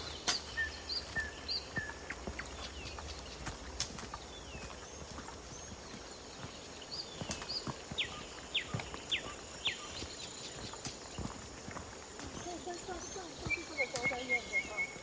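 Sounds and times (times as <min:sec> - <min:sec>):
birds chirping: 0:00.0 - 0:15.0
footsteps on trail: 0:00.0 - 0:15.0.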